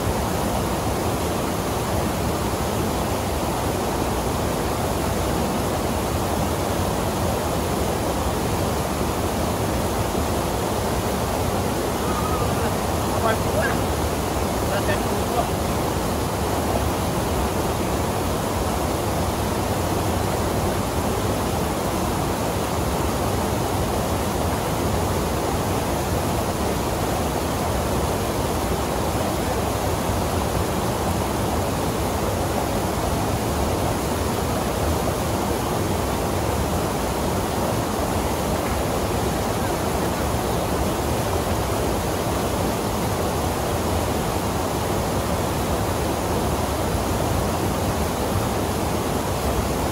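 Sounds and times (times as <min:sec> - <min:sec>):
waterfall rushing over rock: 0:00.0 - 0:49.9.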